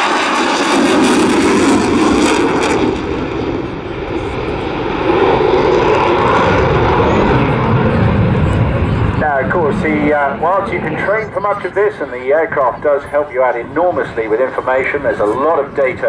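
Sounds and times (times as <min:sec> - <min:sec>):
fighter jet roar: 0:00.0 - 0:16.0.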